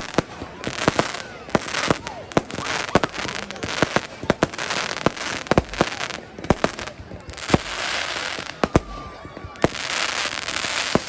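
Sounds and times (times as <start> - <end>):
crackling hiss of bursting shells: 0.0 - 11.0
deep fireworks booms: 0.0 - 11.0
fireworks bangs: 0.0 - 11.0.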